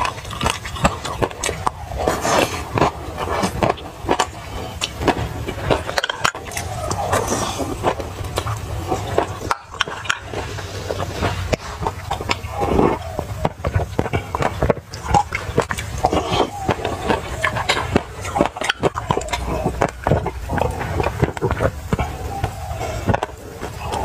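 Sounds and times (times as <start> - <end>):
chewing crunchy seeds: 0.0 - 24.0
mouth sounds: 0.0 - 24.0.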